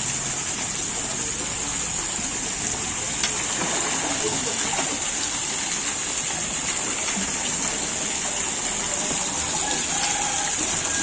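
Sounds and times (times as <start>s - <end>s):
water jet spraying into tank: 0.0s - 11.0s.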